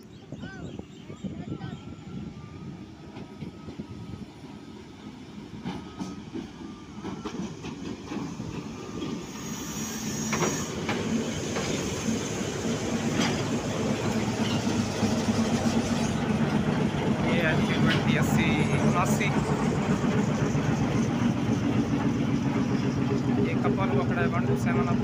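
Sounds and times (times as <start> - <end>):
train wheel noise: 1.9 - 25.0
locomotive engine drone: 2.1 - 25.0.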